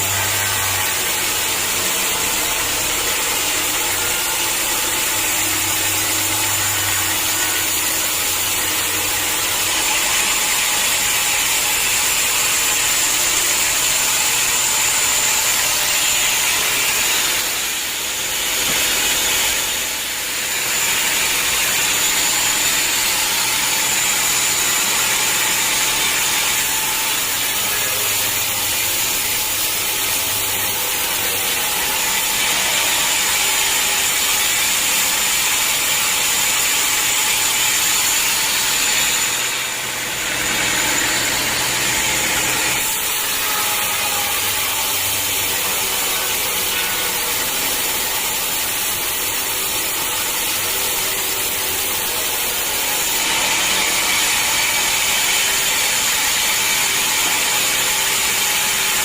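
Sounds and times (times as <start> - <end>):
saw whining: 0.0 - 59.0.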